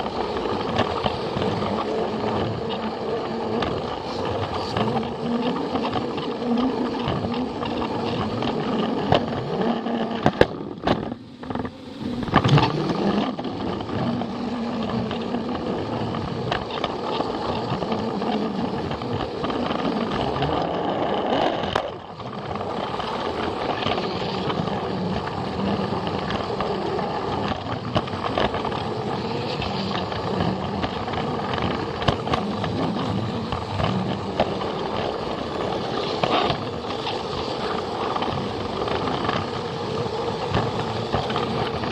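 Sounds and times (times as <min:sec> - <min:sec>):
toy train motor running: 0:00.0 - 0:41.9
wheels clicking on plastic track: 0:00.0 - 0:41.9.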